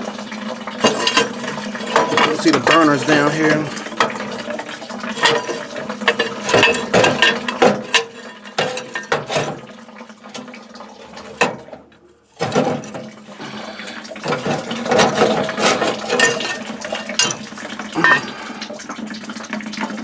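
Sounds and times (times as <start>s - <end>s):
water rushing and splashing: 0.0s - 11.6s, 12.4s - 20.0s.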